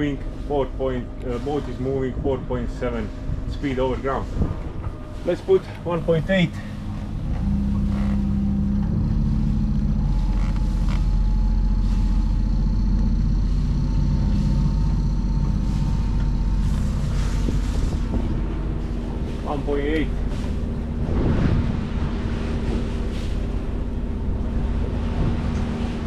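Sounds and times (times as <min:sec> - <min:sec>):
boat diesel engine revving: 0:00.0 - 0:26.0.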